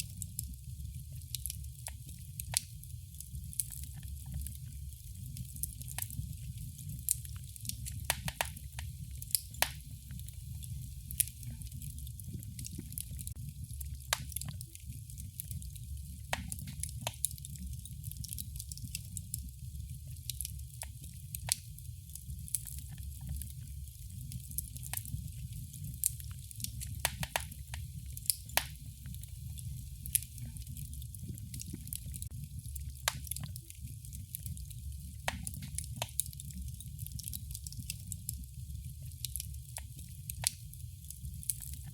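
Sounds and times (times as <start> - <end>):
low fire rumble: 0.0 - 41.9
wood fire crackling: 0.0 - 41.9.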